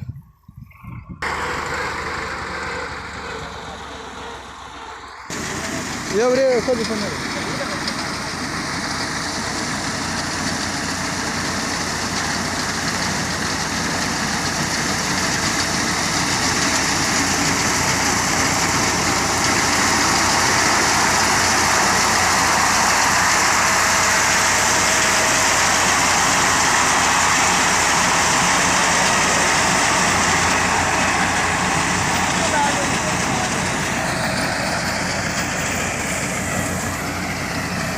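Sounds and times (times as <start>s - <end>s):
tractor engine under load: 1.1s - 37.9s.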